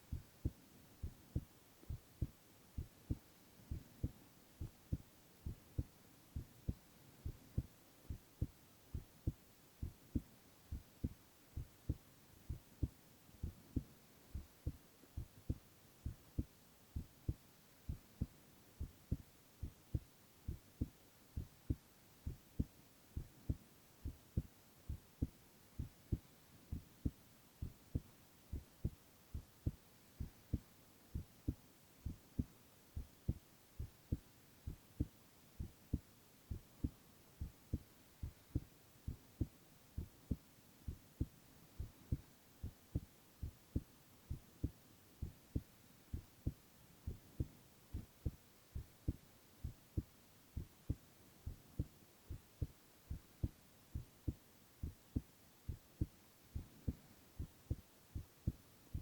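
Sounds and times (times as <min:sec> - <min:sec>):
faint background hiss: 0:00.0 - 0:59.0
heartbeat thumping: 0:00.1 - 0:59.0.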